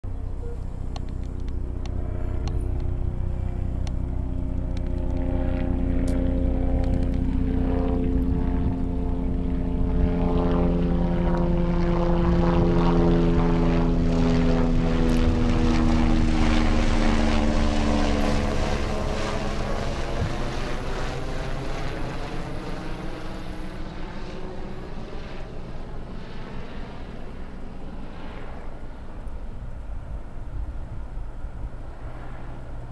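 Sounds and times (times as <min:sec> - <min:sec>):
engine droning past: 0:00.0 - 0:32.9.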